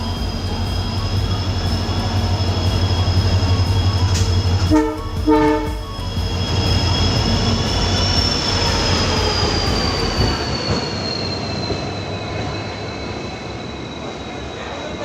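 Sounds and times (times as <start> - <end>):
train rumble: 0.0 - 15.0
train wheels squealing on rails: 0.0 - 15.0.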